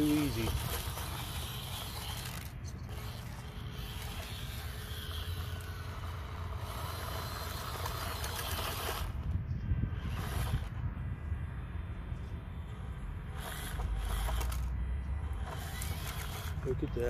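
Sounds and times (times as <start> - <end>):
electric motor and gears whirring: 0.0 - 17.0.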